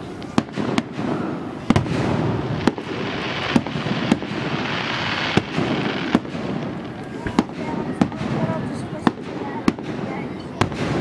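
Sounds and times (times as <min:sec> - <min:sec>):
fireworks bangs: 0:00.0 - 0:11.0
fireworks crackle: 0:00.0 - 0:11.0.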